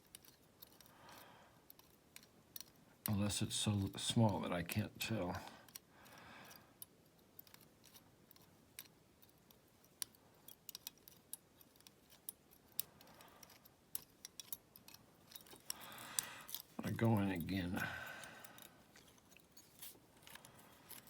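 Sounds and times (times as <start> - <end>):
lock pick clicking and scraping: 0.0 - 3.1, 5.6 - 21.0.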